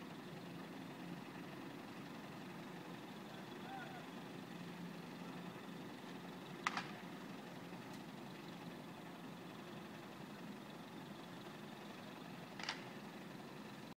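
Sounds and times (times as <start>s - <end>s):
vehicle engine idling: 0.0s - 13.9s.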